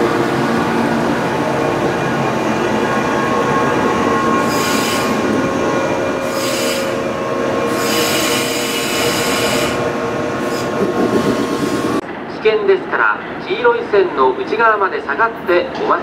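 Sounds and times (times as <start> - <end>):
electric train running past: 0.0 - 15.9.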